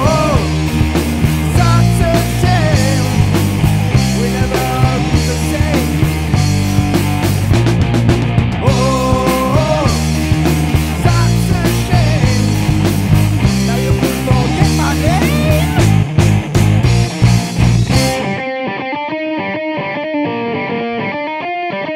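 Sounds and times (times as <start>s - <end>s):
rock band playing: 0.0s - 21.9s.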